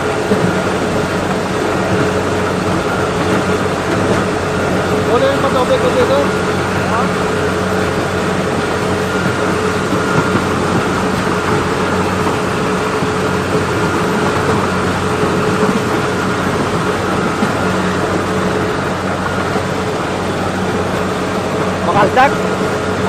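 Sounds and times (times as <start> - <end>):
farm machine engine humming: 0.0 - 23.0.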